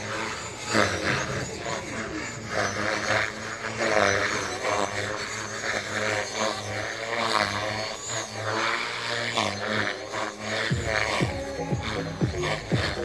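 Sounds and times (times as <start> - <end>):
rc helicopter motor humming: 0.0 - 13.0.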